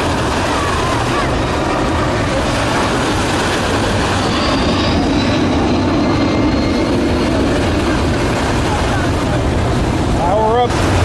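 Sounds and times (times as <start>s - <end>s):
faint high turbine whine: 0.0s - 11.0s
jet engines rumbling overhead: 0.0s - 11.0s.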